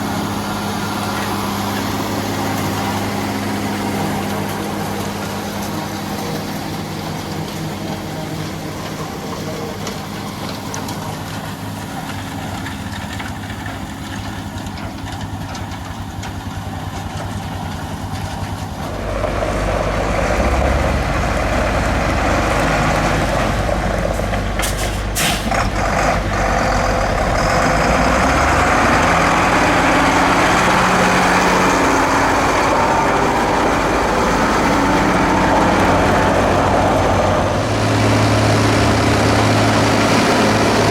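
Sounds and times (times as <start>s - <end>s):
rushing machinery noise: 0.0s - 40.9s
tractor diesel engine running: 0.0s - 40.9s.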